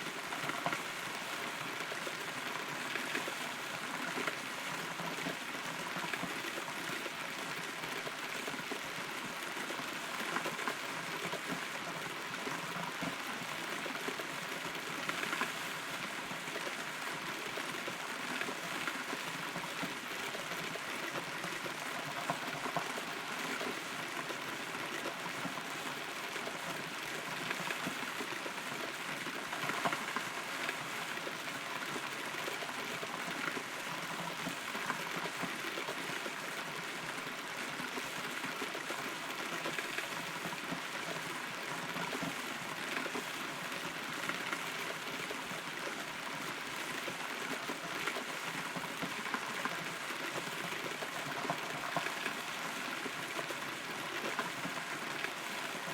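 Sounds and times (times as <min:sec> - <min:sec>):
rain drops ticking on wood: 0:00.0 - 0:55.9.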